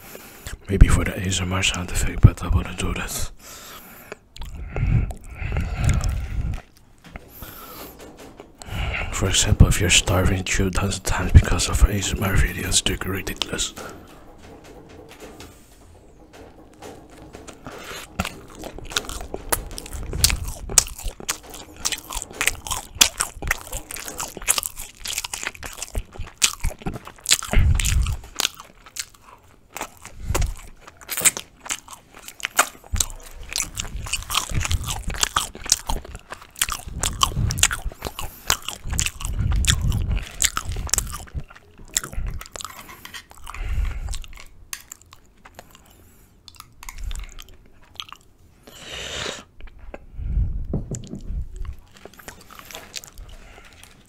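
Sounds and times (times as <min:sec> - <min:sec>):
chewing and biting flatbread: 0:03.7 - 0:15.2, 0:16.1 - 0:48.8, 0:51.6 - 0:54.0.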